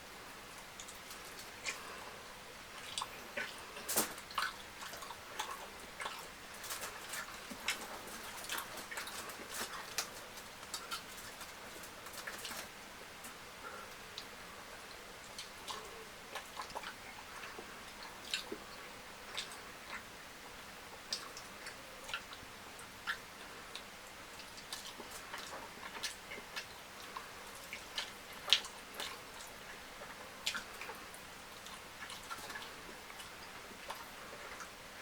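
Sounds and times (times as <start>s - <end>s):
wet chewing sounds: 0.6s - 35.0s.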